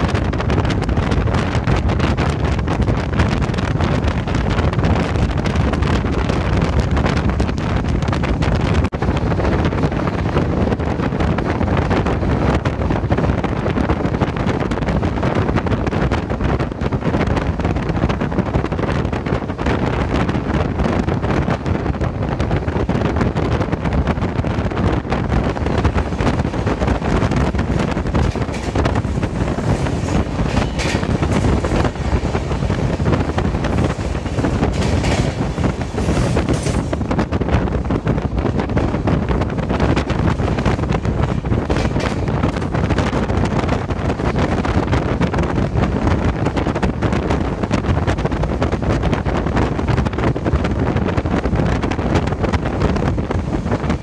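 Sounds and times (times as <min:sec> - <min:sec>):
train rumbling: 0:00.0 - 0:54.0
wind on microphone: 0:00.0 - 0:54.0.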